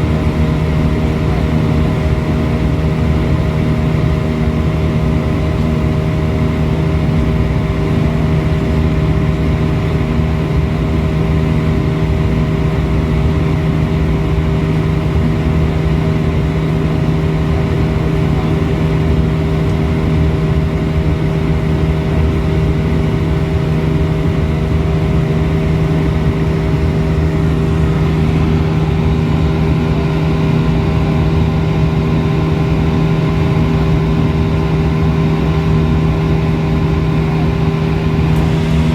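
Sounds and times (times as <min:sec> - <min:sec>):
airplane cabin drone: 0:00.0 - 0:38.9
low steady hum: 0:00.0 - 0:38.9.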